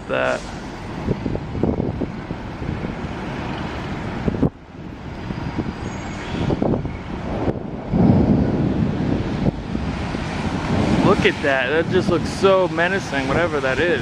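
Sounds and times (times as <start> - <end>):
low rumbling outdoor noise: 0.0 - 14.0.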